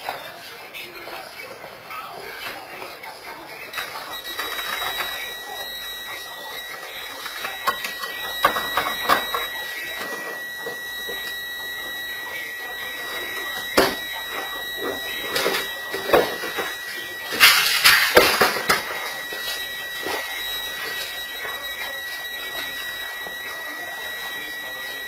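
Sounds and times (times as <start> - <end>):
electronic alarm tone: 3.7 - 25.0.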